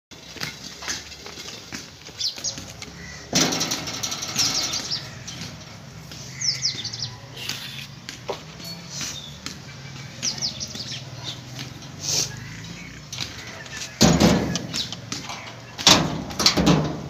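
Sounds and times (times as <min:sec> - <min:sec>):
small birds chirping: 0:00.2 - 0:03.3, 0:04.0 - 0:16.0
loud rustling clattering: 0:00.2 - 0:07.0, 0:10.1 - 0:17.0.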